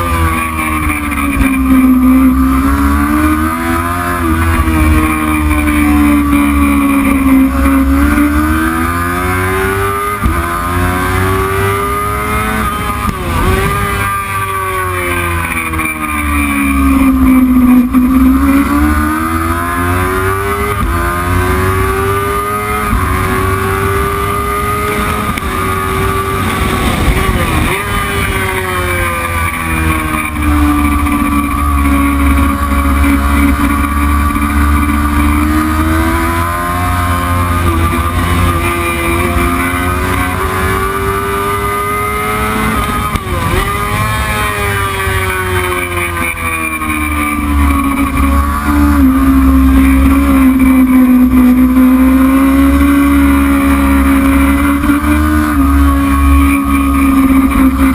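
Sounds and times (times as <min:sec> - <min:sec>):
racing motorcycle engine at high revs: 0:00.0 - 0:57.9.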